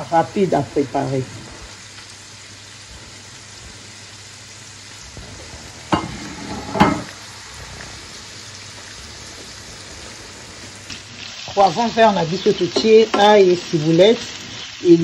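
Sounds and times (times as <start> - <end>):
onions and peppers sizzling in oil: 0.0 - 15.0.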